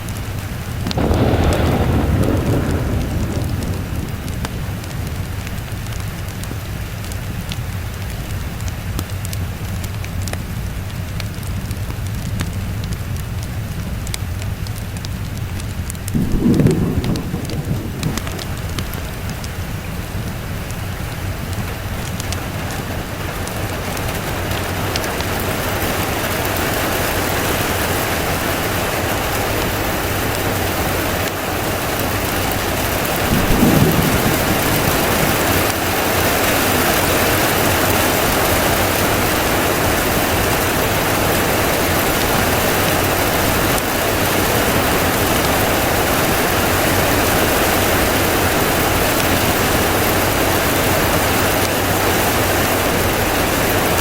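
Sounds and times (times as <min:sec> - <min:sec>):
heavy rain: 0:00.0 - 0:54.0
low rumble of thunder: 0:00.6 - 0:08.4, 0:11.4 - 0:54.0.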